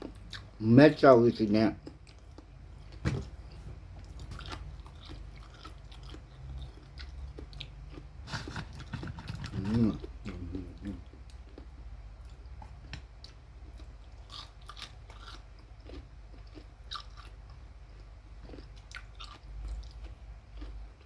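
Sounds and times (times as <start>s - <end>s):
person chewing crunchy food: 0.0s - 0.6s, 1.6s - 21.0s.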